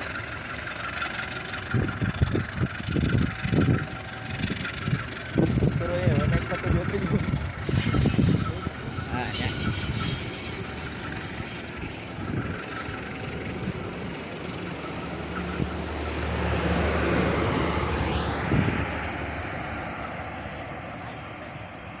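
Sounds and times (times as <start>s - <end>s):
high wheel squeals: 0.0s - 16.3s, 17.5s - 22.0s
train rumbling on rails: 0.0s - 22.0s.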